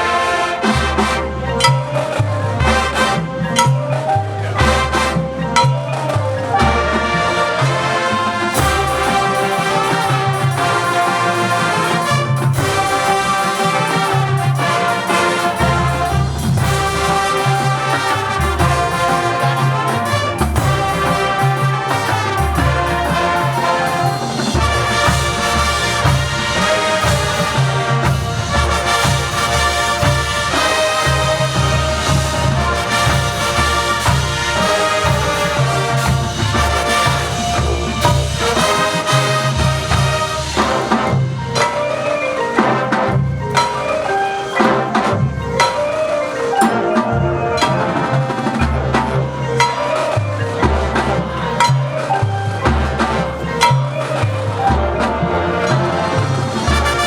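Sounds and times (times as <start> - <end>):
brass instruments playing: 0.0 - 57.0
drum line percussion: 0.0 - 57.0.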